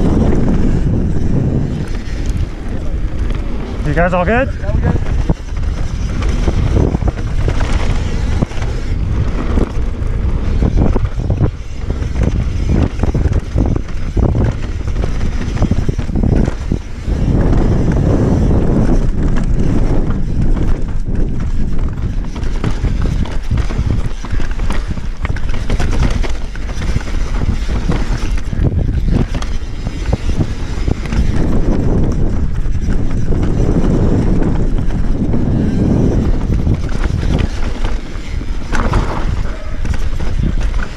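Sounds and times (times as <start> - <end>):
bike knocking and rattling: 0.0 - 40.9
tyres rolling over dirt and stones: 0.0 - 40.9
wind on microphone: 0.0 - 40.9.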